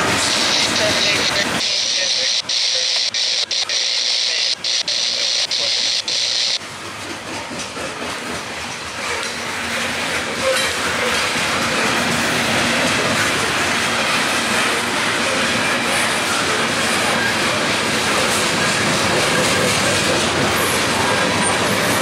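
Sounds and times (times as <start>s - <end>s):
hopper cars rolling on rails: 0.0s - 2.9s, 5.6s - 22.0s.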